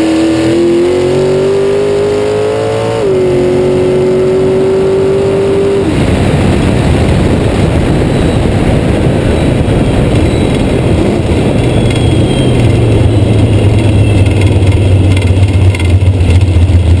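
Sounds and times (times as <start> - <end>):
dragster engine revving: 0.0 - 17.0
wind and road noise: 0.0 - 17.0.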